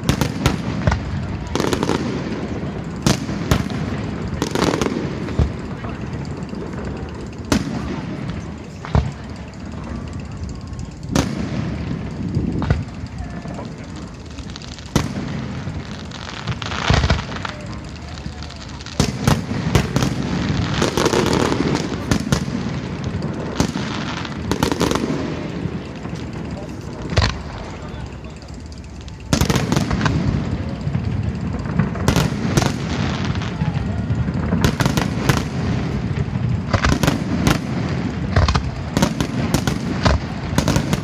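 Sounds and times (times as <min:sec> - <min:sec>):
fireworks bangs and pops: 0:00.0 - 0:10.0, 0:10.6 - 0:41.0
rumble of explosions: 0:00.0 - 0:41.0.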